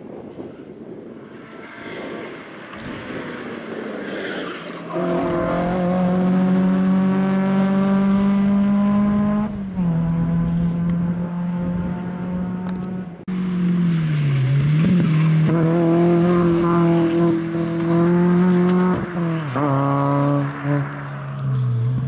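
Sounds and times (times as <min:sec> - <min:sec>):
rally car engine revving: 0:01.6 - 0:22.0.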